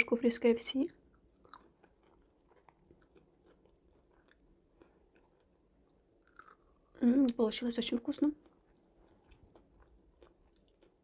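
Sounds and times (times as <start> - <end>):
chewing and mouth sounds: 0.9 - 7.4, 8.4 - 11.0.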